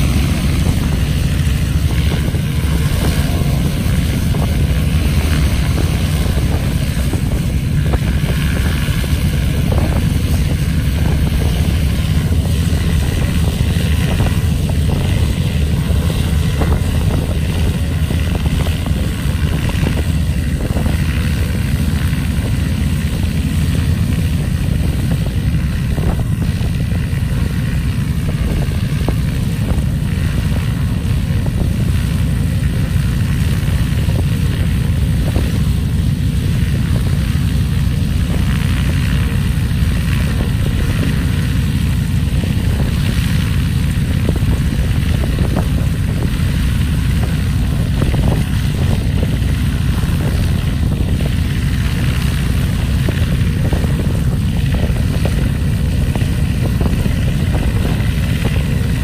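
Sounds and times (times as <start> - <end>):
propeller engine idling: 0.0 - 59.0.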